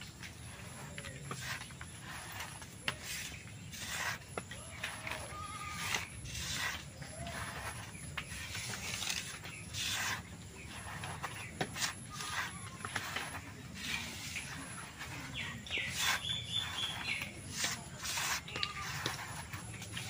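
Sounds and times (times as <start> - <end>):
fingers rubbing dough on plate: 0.1 - 20.0.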